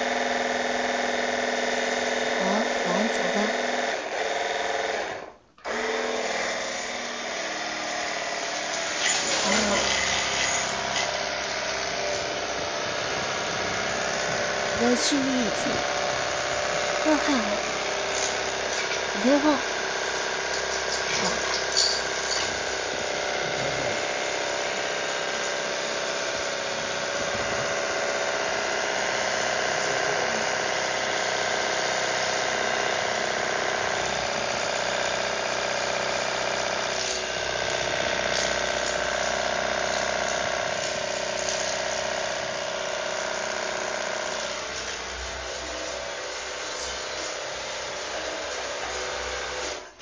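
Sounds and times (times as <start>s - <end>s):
electric motor whining: 0.0s - 50.0s.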